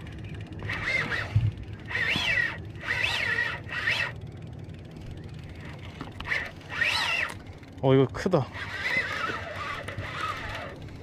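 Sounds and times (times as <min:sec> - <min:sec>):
fishing reel drag buzzing: 0:00.0 - 0:11.0.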